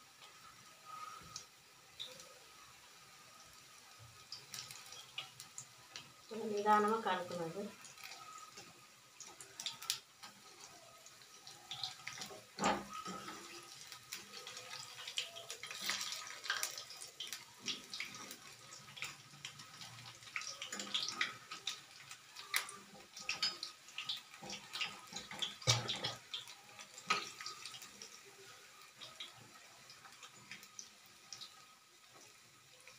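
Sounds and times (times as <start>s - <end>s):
fritters sizzling in hot oil: 0.0s - 32.9s.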